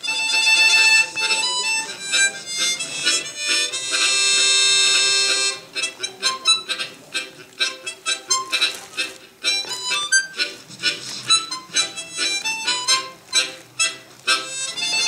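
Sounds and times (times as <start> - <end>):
harmonica melody with chords: 0.0 - 15.0.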